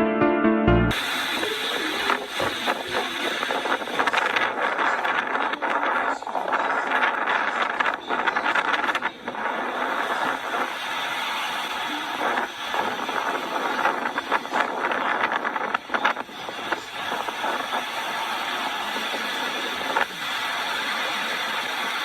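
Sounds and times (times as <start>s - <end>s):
wind buffeting microphone: 1.0s - 22.0s.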